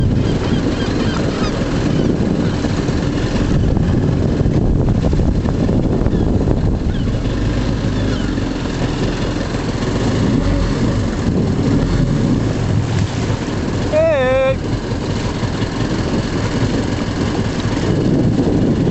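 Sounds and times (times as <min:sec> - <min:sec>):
boat engine idling: 0:00.0 - 0:18.9
wind noise on microphone: 0:00.0 - 0:18.9.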